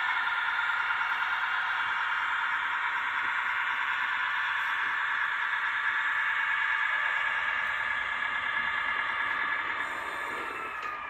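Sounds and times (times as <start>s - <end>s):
model locomotive humming: 0.0s - 11.0s.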